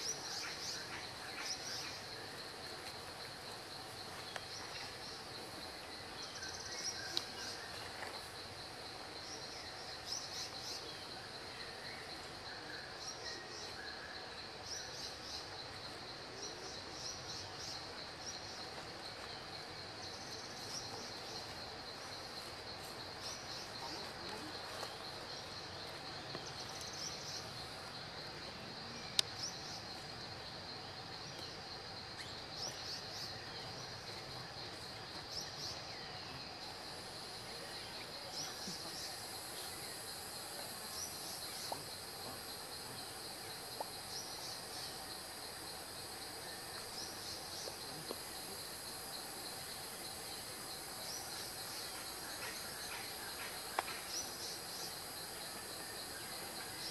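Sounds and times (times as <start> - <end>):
high insect hiss: 0.0 - 56.9.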